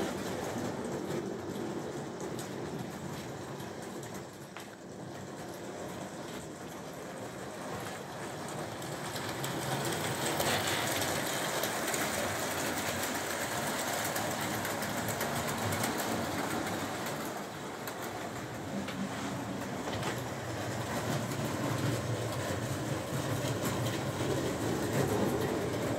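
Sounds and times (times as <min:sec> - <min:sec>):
model trains rattling on track: 0:00.0 - 0:25.9.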